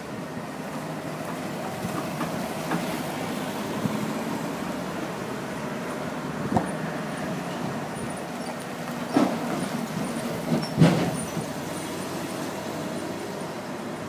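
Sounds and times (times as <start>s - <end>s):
cars driving slowly past: 0.0s - 14.0s.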